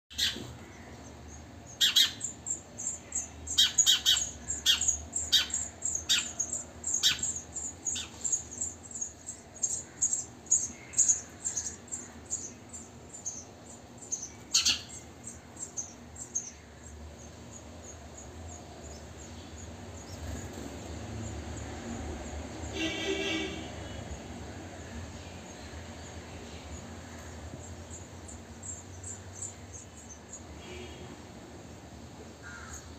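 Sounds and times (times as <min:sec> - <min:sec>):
sparrows chirping: 0:00.1 - 0:31.0.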